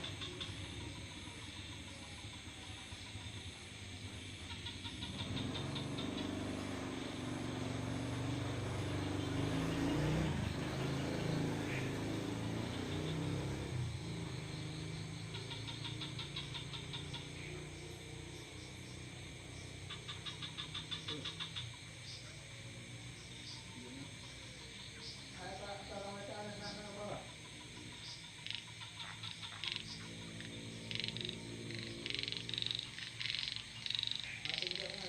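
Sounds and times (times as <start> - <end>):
high-pitched pulsed chirping: 0.0 - 35.0.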